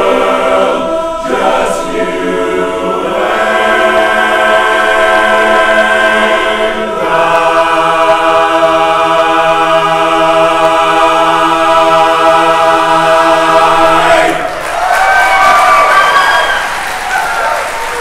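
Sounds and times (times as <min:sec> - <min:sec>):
men's chorus singing a cappella: 0:00.0 - 0:14.7.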